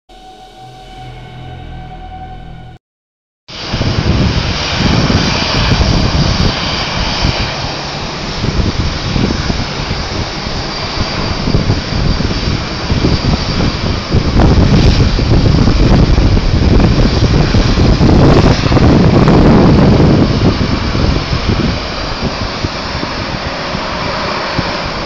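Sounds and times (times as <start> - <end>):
jet engines roaring: 3.5 - 25.0.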